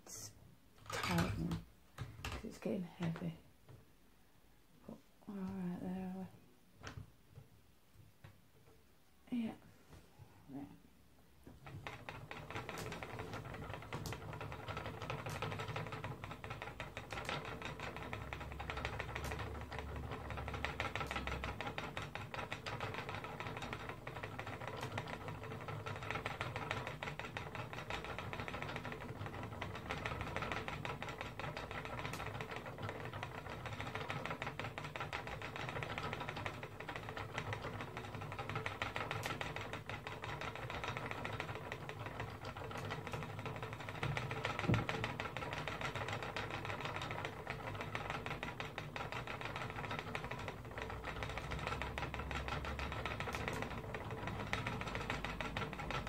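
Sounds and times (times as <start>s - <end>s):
spinning wheel whirring and rattling: 0.8s - 1.6s, 11.6s - 56.0s.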